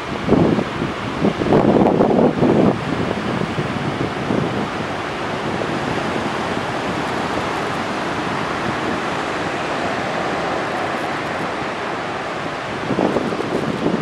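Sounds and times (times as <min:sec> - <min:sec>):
waves breaking: 0:00.0 - 0:14.0
wind buffeting microphone: 0:00.0 - 0:14.0.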